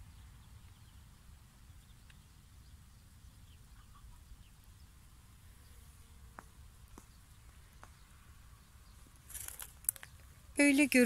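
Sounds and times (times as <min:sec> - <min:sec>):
faint low outdoor rumble: 0:00.0 - 0:11.0.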